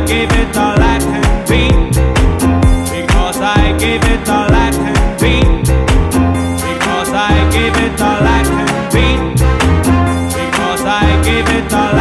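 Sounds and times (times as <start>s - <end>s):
upbeat song with steady beat: 0.0s - 12.0s.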